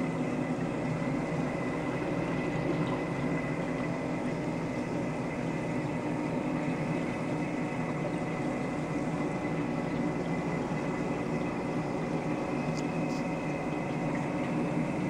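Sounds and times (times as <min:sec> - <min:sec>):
aquarium pumps humming: 0:00.0 - 0:15.0.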